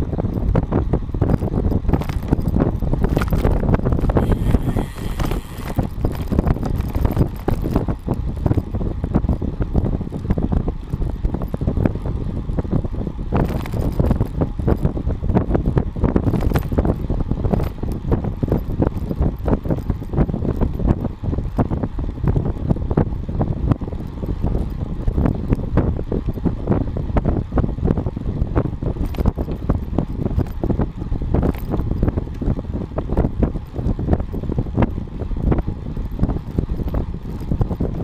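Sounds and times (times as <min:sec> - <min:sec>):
bicycle tyre noise: 0:00.0 - 0:38.0
wind buffeting microphone: 0:00.0 - 0:38.0.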